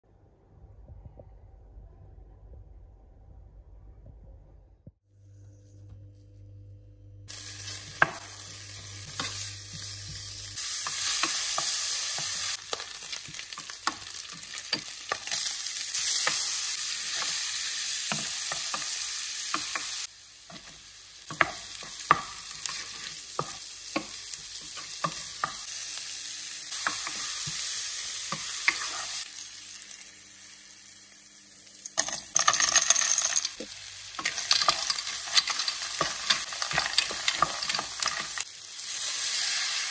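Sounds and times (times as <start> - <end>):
food sizzling in a pan: 7.3 - 39.9.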